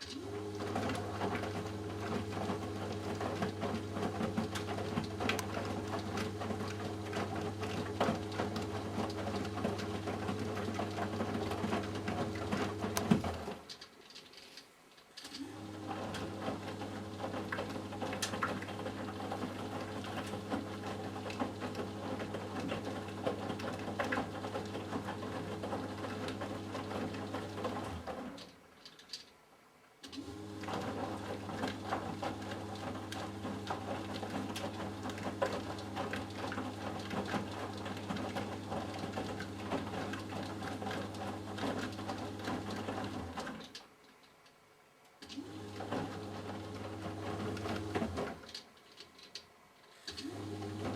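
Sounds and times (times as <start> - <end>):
washing machine motor humming: 0.0 - 13.7, 15.4 - 28.4, 30.1 - 43.7, 45.2 - 48.6, 50.0 - 50.9
laundry and water sloshing: 0.0 - 14.5, 15.3 - 29.1, 30.1 - 44.0, 45.2 - 49.2, 50.0 - 50.9.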